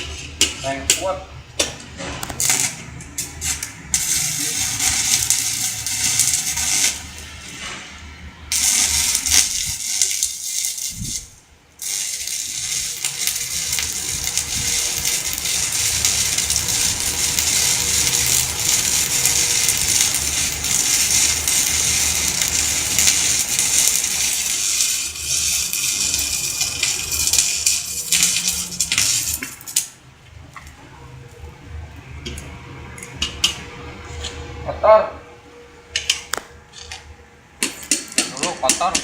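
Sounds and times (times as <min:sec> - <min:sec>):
welding arc crackling and hissing: 0:00.0 - 0:34.4, 0:37.9 - 0:39.0.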